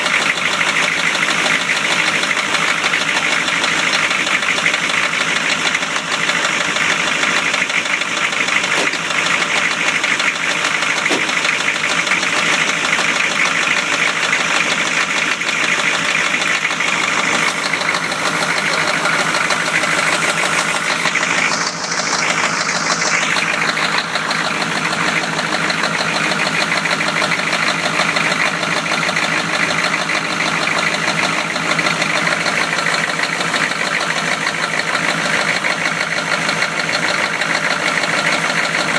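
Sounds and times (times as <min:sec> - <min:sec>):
car engine running: 0:00.0 - 0:38.9
rapid engine knocking: 0:00.0 - 0:38.9.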